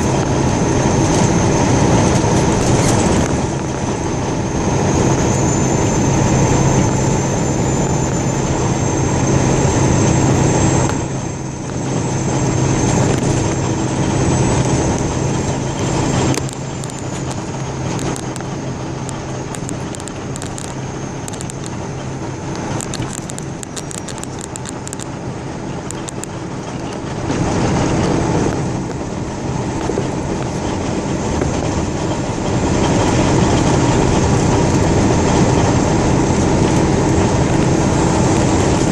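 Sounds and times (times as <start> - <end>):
vehicle rumbling on the move: 0.0 - 38.9.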